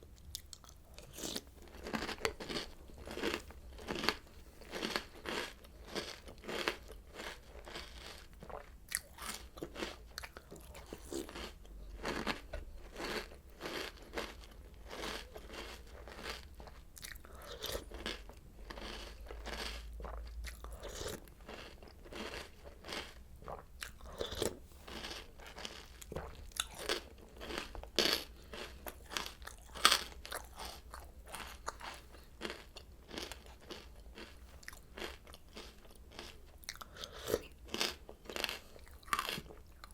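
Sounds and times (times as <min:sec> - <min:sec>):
crunchy cereal chewing: 0:00.1 - 0:39.9.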